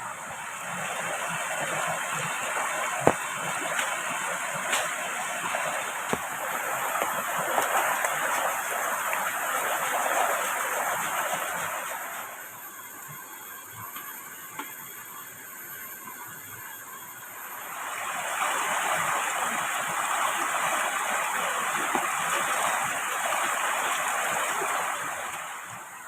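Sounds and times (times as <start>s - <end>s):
river flowing: 0.0s - 12.5s, 17.6s - 26.0s.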